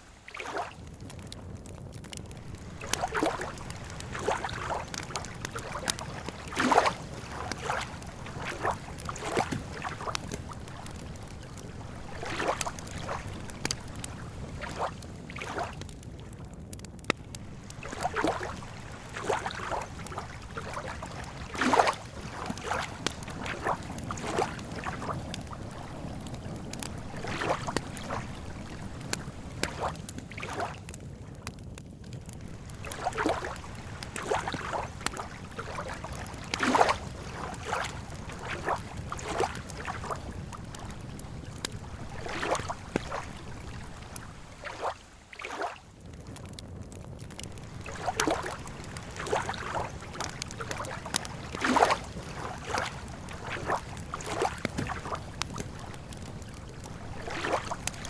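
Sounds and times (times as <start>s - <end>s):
small waves lapping: 0.0s - 1.3s, 2.1s - 16.4s, 17.1s - 31.0s, 32.3s - 46.6s, 47.2s - 58.0s
campfire crackling: 0.0s - 58.0s.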